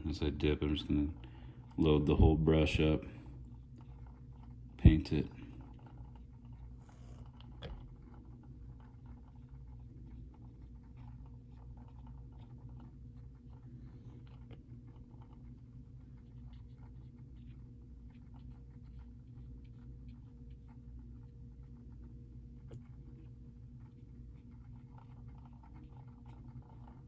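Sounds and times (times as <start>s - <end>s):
steady low hum: 0.0s - 27.0s
paintbrush ticks and handling: 0.2s - 27.0s.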